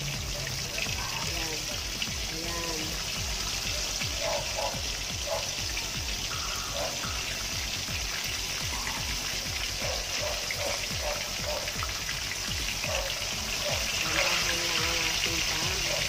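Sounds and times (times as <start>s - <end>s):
fish deep-frying in oil: 0.0s - 16.0s.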